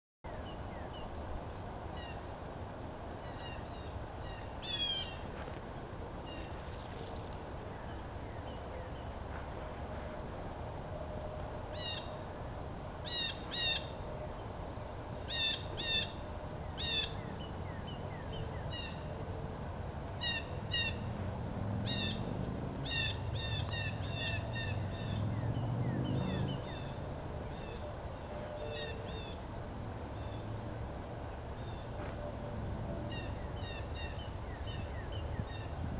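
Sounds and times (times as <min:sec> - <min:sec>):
songbirds singing: 0:00.3 - 0:10.3, 0:11.3 - 0:35.9.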